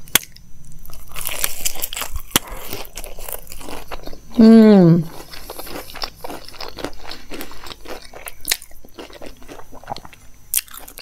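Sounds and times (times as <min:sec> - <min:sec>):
crispy food chewing crunches: 0:00.0 - 0:04.4, 0:05.1 - 0:11.0.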